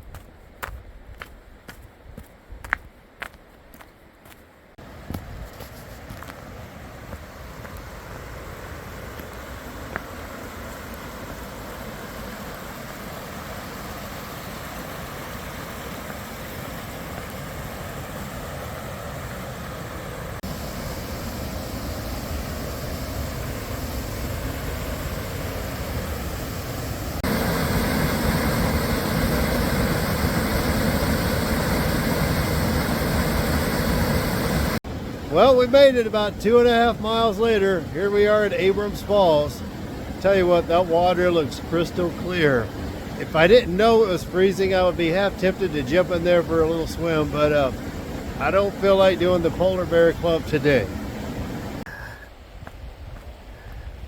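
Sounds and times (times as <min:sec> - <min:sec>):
creek and waterfall rushing: 0:04.8 - 0:52.1.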